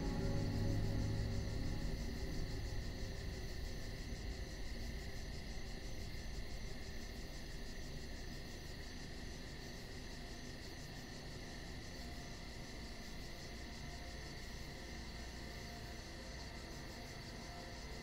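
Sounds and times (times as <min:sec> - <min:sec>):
cricket-like chirring: 0:00.0 - 0:18.0.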